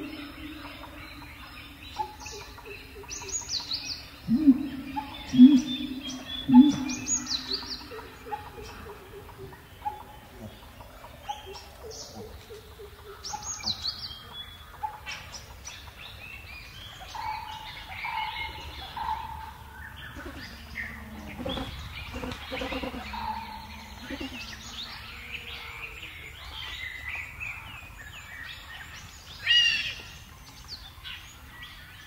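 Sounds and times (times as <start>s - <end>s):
birds chirping and calling: 0.0s - 32.0s.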